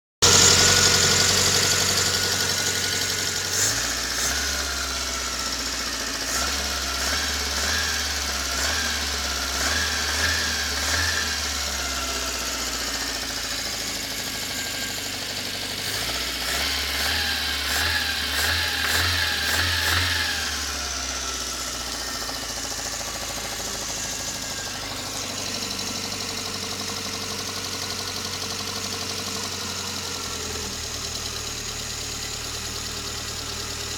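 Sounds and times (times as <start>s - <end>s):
car engine idling and revving: 0.2s - 33.9s
engine knock: 0.2s - 33.9s.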